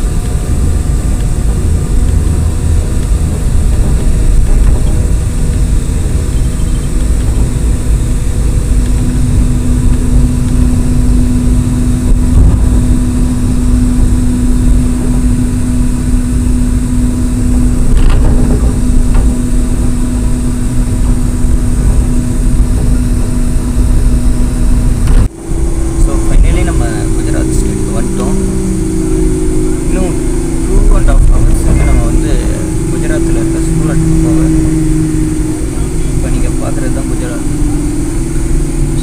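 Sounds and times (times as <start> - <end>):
vehicle engine drone: 0.0 - 39.0.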